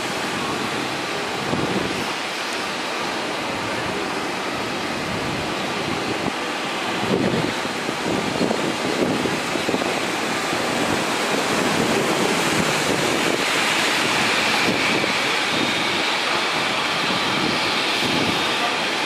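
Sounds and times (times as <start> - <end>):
heavy rain: 0.0 - 19.0
strong wind: 0.0 - 19.0
wind buffeting microphone: 0.0 - 19.0.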